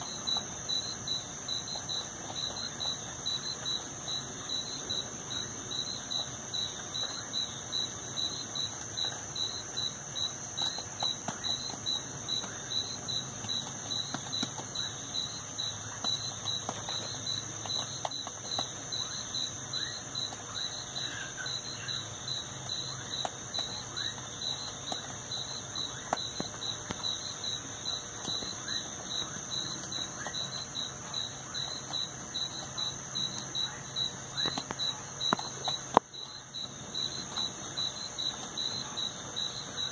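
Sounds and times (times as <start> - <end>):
faint clicks and crackles: 0.0 - 20.8, 21.6 - 39.9
insect pulsing rhythmically: 0.0 - 39.9.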